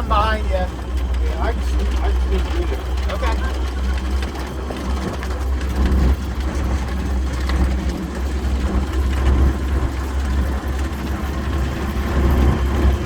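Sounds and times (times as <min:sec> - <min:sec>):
vehicle engine droning: 0:00.0 - 0:13.0
vehicle rattling: 0:00.0 - 0:13.0.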